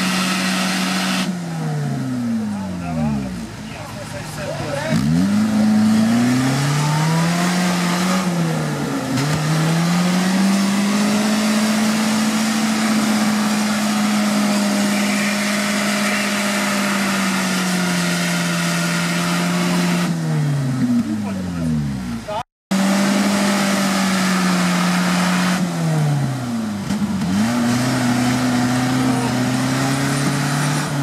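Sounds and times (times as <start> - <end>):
car engine revving hard: 0.0 - 31.0.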